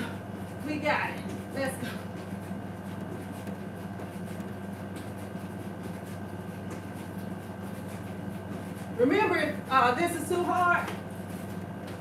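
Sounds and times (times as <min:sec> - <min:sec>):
low room hum: 0:00.0 - 0:12.0
sneakers tapping on tile floor: 0:00.8 - 0:09.4, 0:10.2 - 0:12.0.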